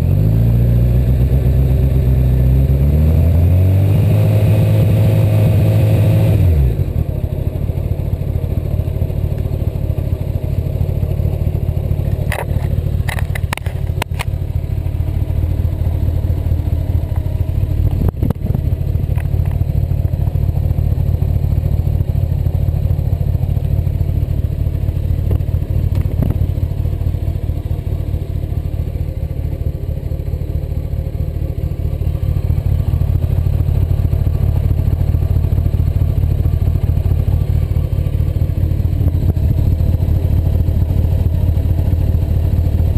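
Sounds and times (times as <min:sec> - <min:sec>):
motorcycle engine revving and idling: 0:00.0 - 0:42.9.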